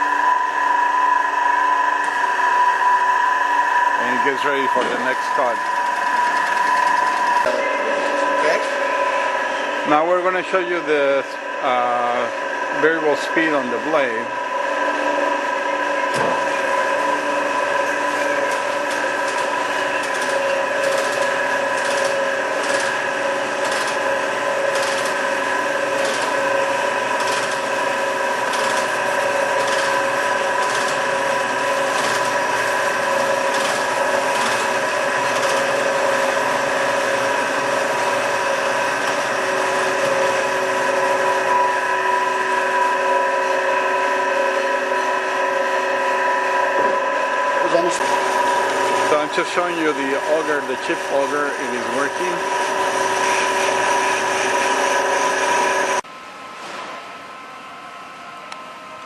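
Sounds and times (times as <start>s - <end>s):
band saw whining: 0.0s - 56.0s.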